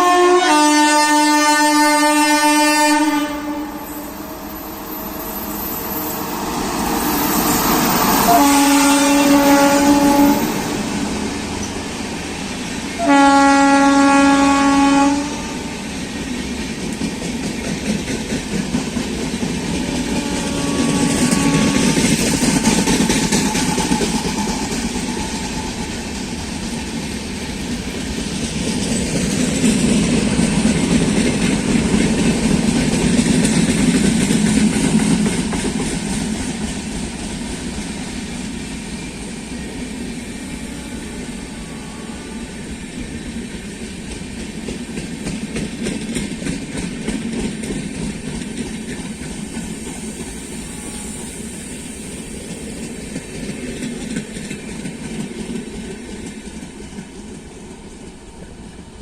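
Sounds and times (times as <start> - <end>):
train wheels clattering on rails: 4.0 - 40.6, 42.5 - 58.9.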